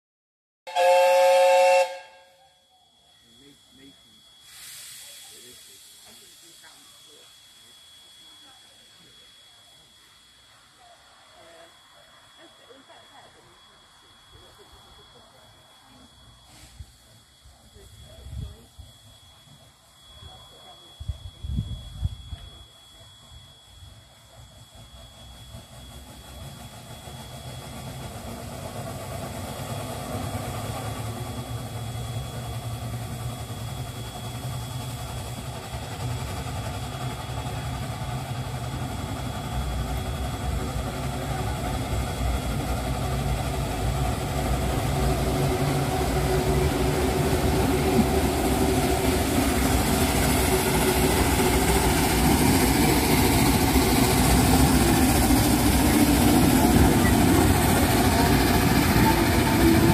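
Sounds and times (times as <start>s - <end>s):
steam locomotive exhaust: 0.7s - 59.9s.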